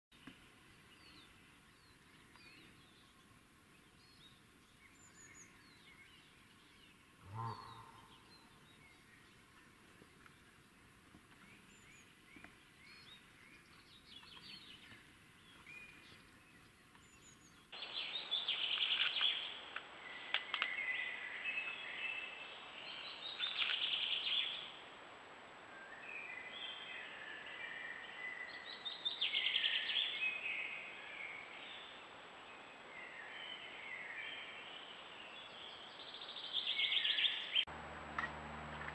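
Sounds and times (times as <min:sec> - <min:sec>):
songbirds singing: 0:00.2 - 0:24.8, 0:25.8 - 0:38.9.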